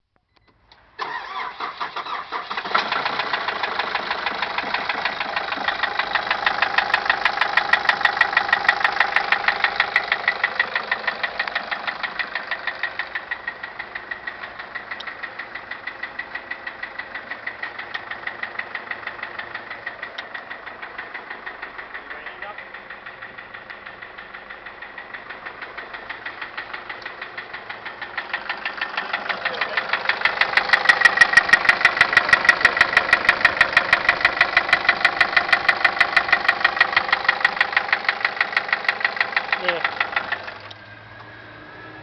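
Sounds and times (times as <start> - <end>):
engine starting and knocking: 0.2 - 42.0.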